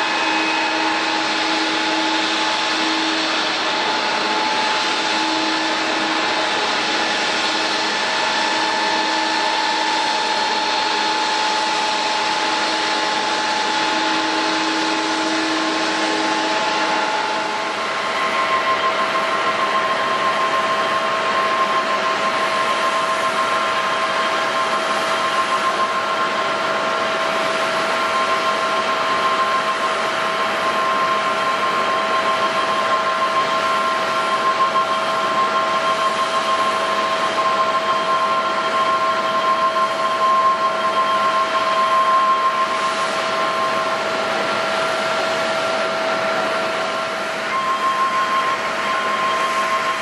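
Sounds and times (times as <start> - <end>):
jet airliner engines running: 0.0 - 50.0
steady whine tones: 0.0 - 50.0.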